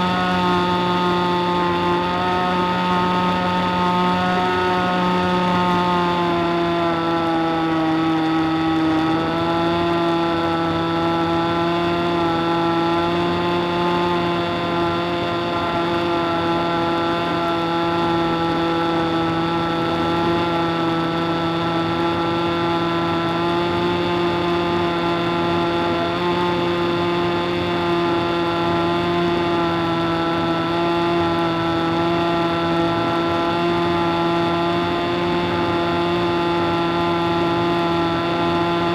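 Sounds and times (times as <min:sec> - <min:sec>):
model airplane engine: 0:00.0 - 0:38.9.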